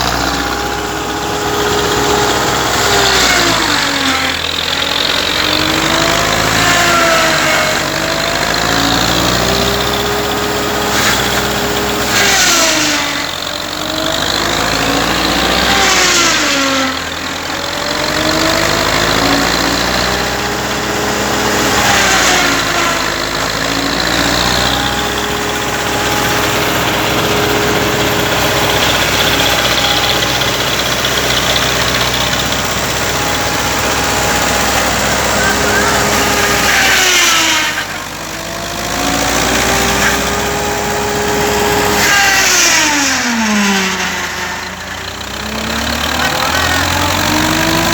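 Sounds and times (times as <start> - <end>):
tractor diesel engine revving: 0.0 - 47.9.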